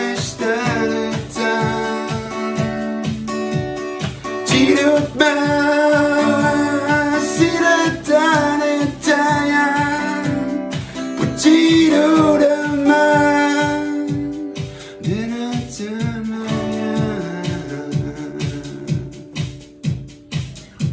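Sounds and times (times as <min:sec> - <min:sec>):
man singing: 0:00.0 - 0:03.2, 0:04.2 - 0:19.6
strummed acoustic guitar: 0:00.0 - 0:20.9.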